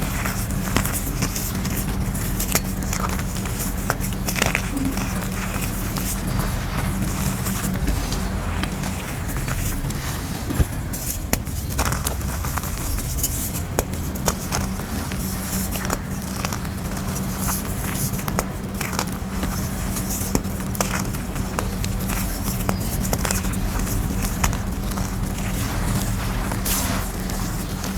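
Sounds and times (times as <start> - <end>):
chalk crushing and crackling: 0.0 - 27.9
chalk pieces snapping: 0.1 - 8.2, 10.6 - 27.9.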